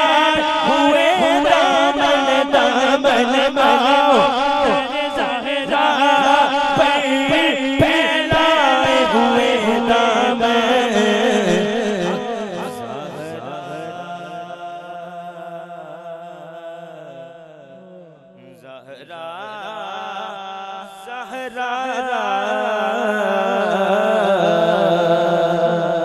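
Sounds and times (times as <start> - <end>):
man singing into microphone: 0.0 - 26.0.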